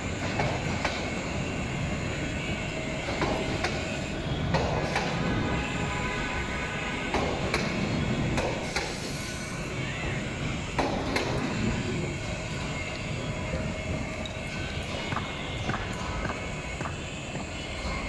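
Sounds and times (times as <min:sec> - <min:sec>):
train coaches rumbling past: 0:00.0 - 0:18.0.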